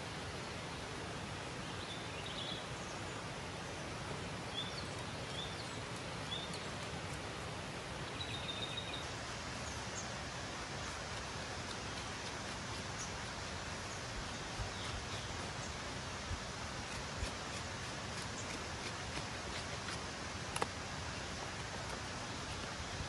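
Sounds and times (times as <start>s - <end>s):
forest background noise: 0.0s - 23.0s.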